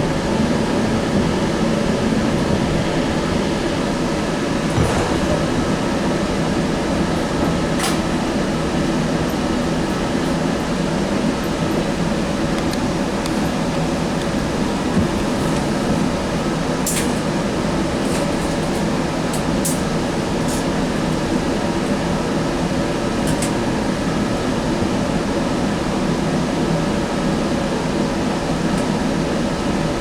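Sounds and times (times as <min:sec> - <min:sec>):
air-conditioning fans running: 0:00.0 - 0:30.0.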